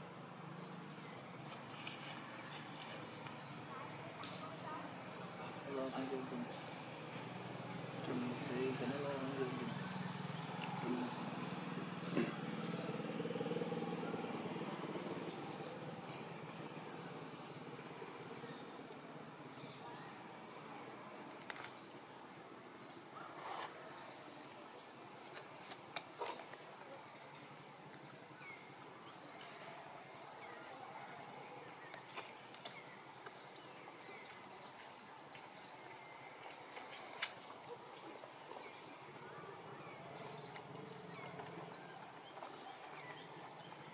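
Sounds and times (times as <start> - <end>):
high insect drone: 0.0 - 43.9.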